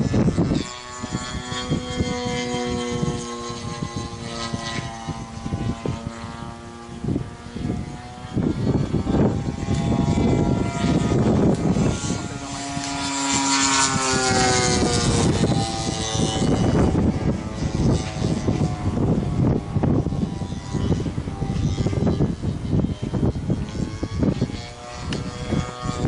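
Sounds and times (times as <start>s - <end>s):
model plane engine in flight: 0.0s - 26.0s.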